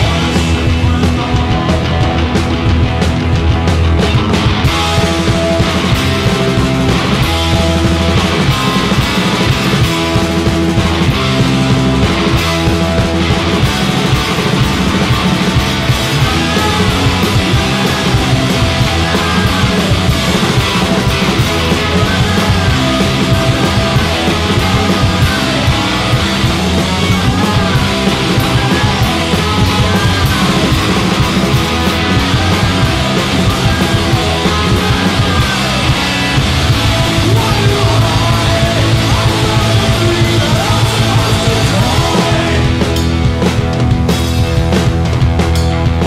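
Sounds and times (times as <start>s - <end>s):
punk rock band playing: 0.0s - 46.0s.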